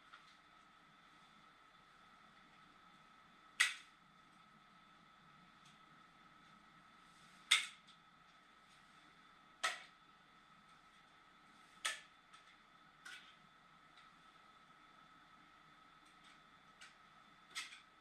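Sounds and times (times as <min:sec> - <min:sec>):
faint steady whine: 0:00.0 - 0:18.0.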